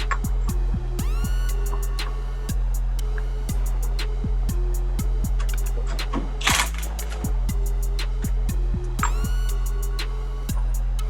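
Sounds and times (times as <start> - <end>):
drum machine beat: 0.0 - 11.0
rising synth sweep: 0.0 - 11.0.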